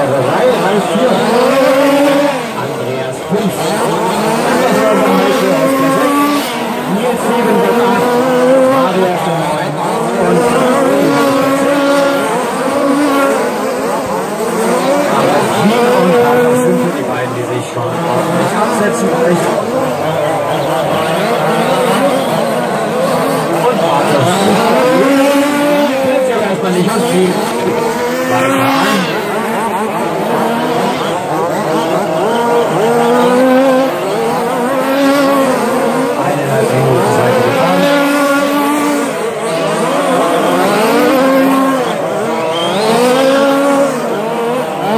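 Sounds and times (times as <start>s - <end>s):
rc truck motors whining: 0.0s - 44.9s.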